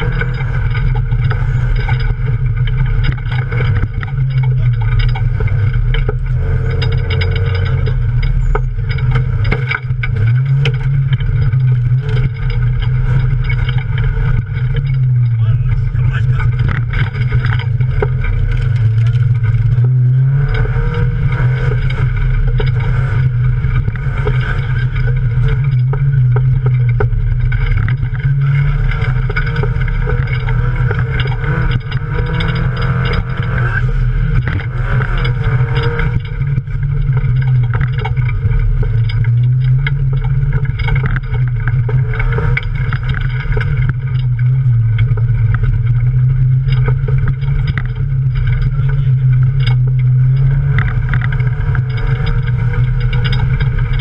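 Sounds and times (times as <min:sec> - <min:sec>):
car knocks and rattles: 0:00.0 - 0:54.0
race car engine revving: 0:00.0 - 0:54.0.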